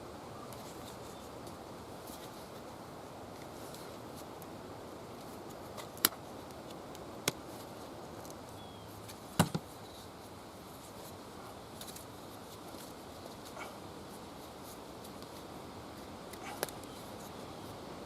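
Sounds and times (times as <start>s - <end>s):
low rushing background noise: 0.0s - 18.0s.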